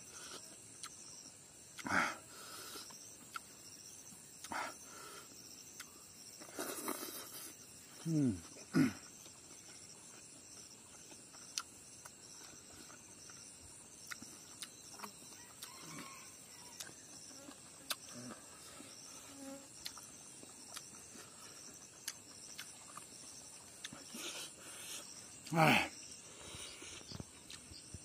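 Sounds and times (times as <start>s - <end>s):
insects chirping: 0.0s - 28.0s
person eating by hand: 0.1s - 2.0s, 2.7s - 4.8s, 5.6s - 16.0s, 16.7s - 28.0s.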